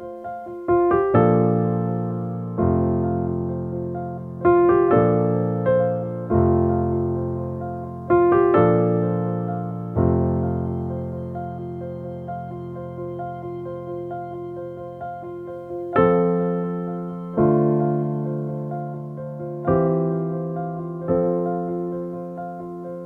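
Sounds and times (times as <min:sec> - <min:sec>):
solo piano chords: 0:00.0 - 0:23.0.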